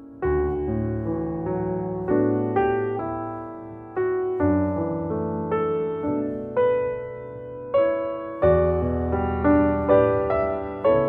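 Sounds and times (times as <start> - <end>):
slow gentle piano piece: 0.0 - 11.0.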